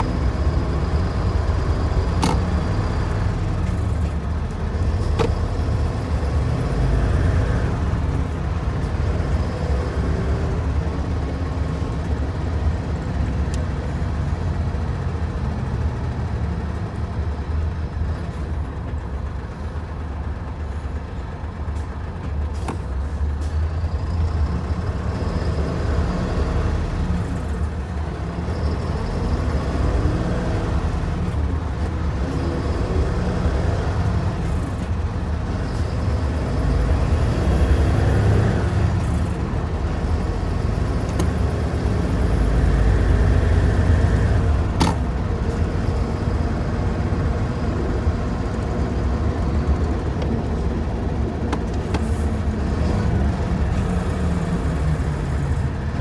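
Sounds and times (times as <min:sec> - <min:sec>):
diesel engine rumble: 0:00.0 - 0:56.0
road noise: 0:00.0 - 0:56.0.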